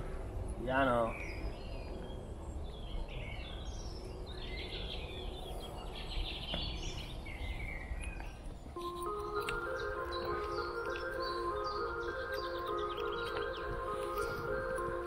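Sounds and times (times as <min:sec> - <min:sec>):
birds chirping and warbling: 0:00.0 - 0:15.0.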